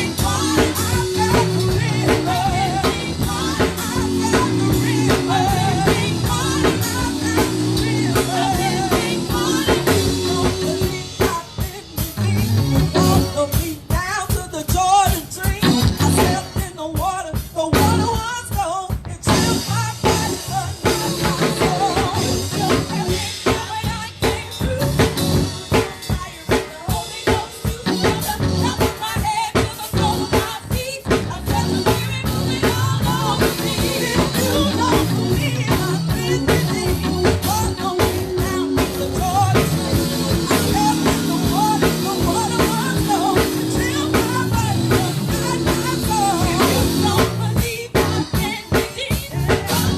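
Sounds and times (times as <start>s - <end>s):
sustained keyboard or bass notes: 0.0s - 13.8s, 15.6s - 16.6s, 19.2s - 25.9s, 27.6s - 49.9s
drum kit steady beat: 0.0s - 49.9s
person singing: 0.0s - 49.9s.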